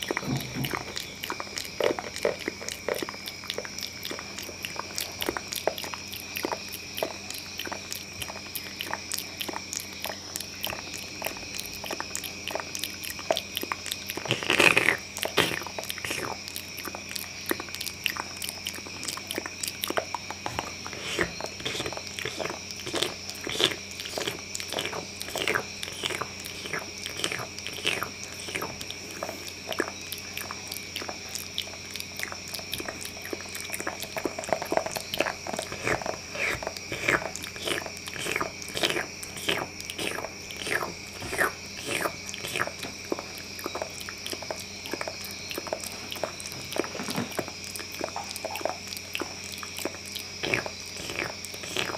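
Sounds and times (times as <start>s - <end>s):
wet mouth clicks and smacks: 0.0s - 51.9s.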